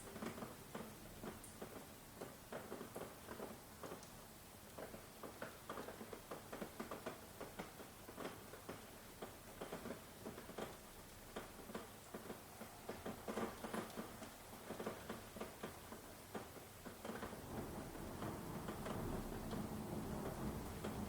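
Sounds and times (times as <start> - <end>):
faint steady rain hiss: 0.0 - 21.0
heavy raindrops pattering: 1.6 - 21.0.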